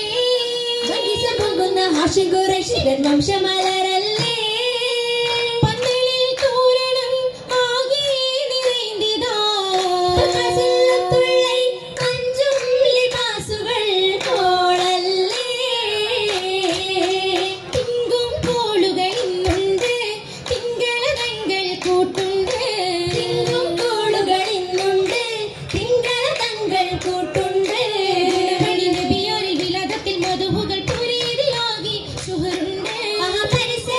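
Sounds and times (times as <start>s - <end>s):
hand claps keeping time: 0.0s - 33.9s
women singing together: 0.0s - 33.9s.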